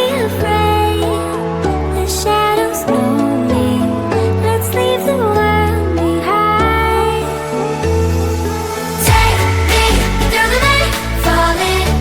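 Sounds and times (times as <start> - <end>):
synth chords background music: 0.0 - 12.0.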